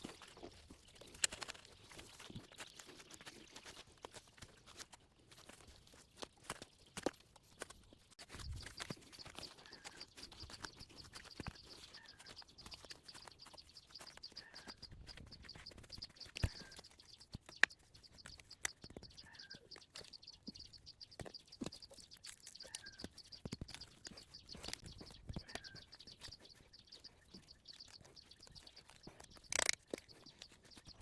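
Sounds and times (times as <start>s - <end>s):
light clicks and rustles: 0.0s - 31.0s.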